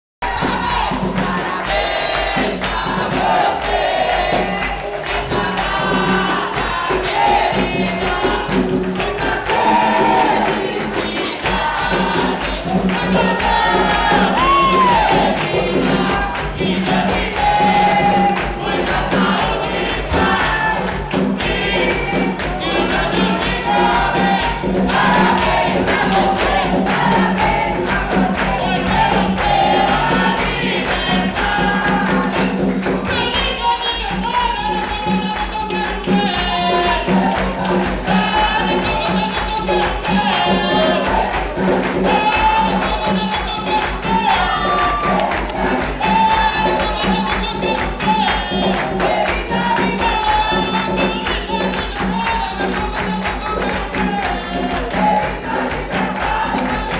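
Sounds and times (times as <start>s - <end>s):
rhythmic percussion: 0.2s - 56.9s
voices singing together: 0.2s - 56.9s.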